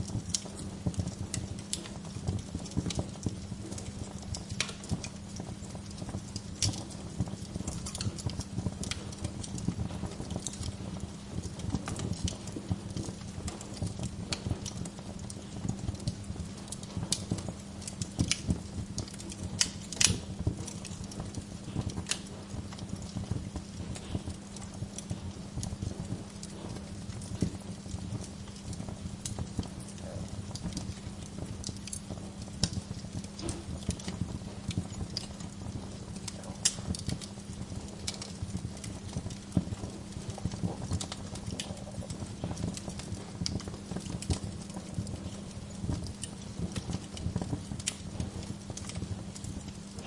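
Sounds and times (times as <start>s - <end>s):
low steady fire rumble: 0.0s - 50.0s
wood fire crackling and popping: 0.0s - 50.0s.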